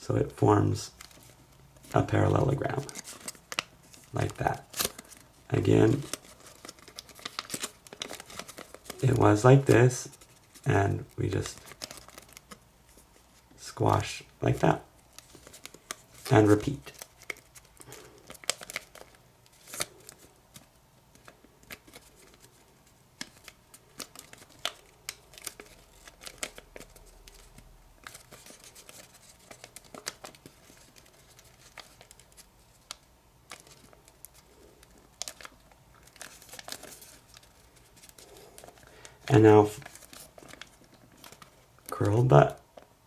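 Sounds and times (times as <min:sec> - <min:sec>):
paper crinkling: 0:00.9 - 0:13.6, 0:14.5 - 0:42.9.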